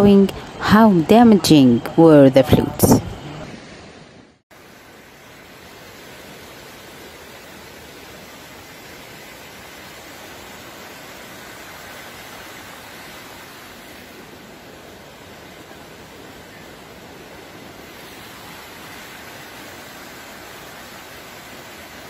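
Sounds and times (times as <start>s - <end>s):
floodwater rushing: 3.4s - 22.0s.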